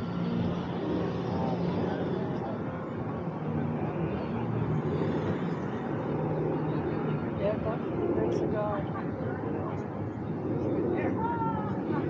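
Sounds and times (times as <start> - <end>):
chatter of passers-by: 0.0 - 12.0
low mechanical drone: 0.0 - 12.0.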